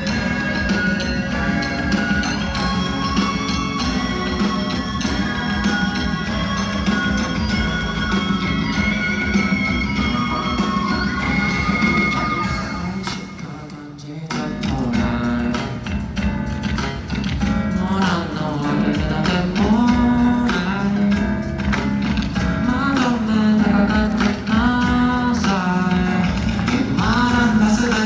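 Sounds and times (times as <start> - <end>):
guitar accompaniment: 0.0 - 28.0.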